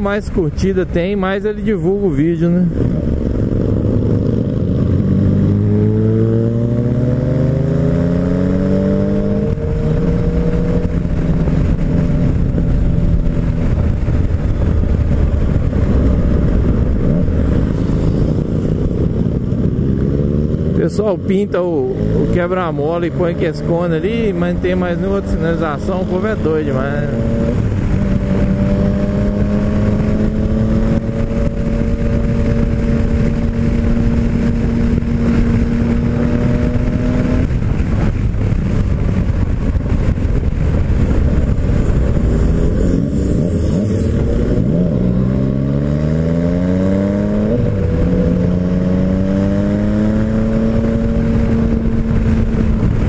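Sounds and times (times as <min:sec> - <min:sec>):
motorcycle engine at speed: 0:00.0 - 0:53.0
wind rush on microphone: 0:00.0 - 0:53.0.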